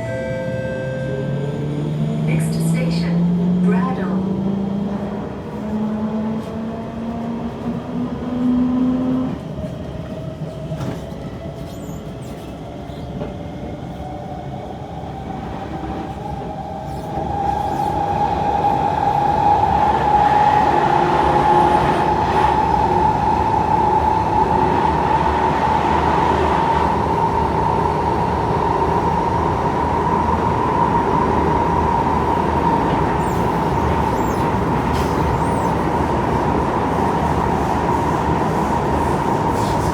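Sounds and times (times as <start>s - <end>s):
rail running noise: 0.0s - 39.9s.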